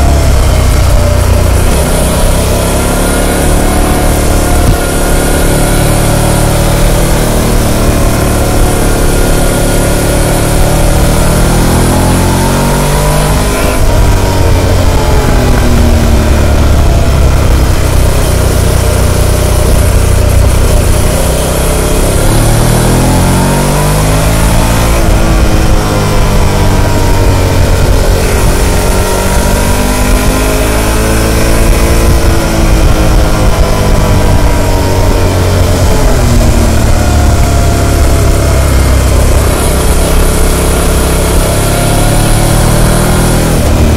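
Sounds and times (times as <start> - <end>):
motorcycle engine revving: 0.0 - 43.9
wind noise: 0.0 - 43.9.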